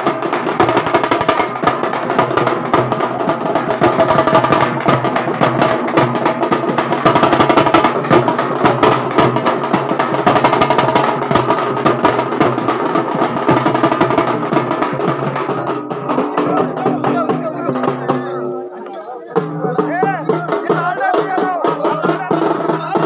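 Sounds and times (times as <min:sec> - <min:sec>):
fast drumming with sticks: 0:00.0 - 0:23.0.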